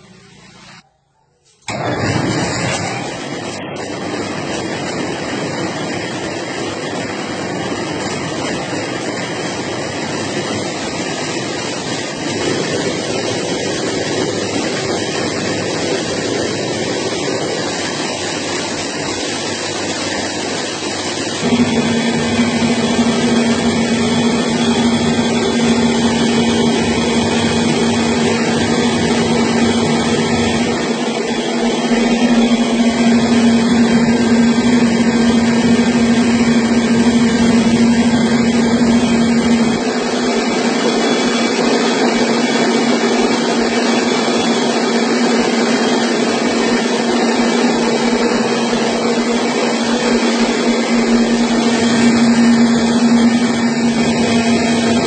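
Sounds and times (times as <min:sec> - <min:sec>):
milling machine whirring: 0:01.7 - 0:55.0.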